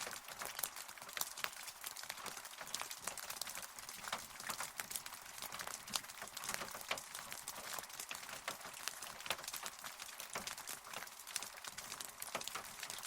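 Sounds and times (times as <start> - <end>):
raindrops ticking on a surface: 0.0 - 13.0
steady rain falling: 0.0 - 13.0.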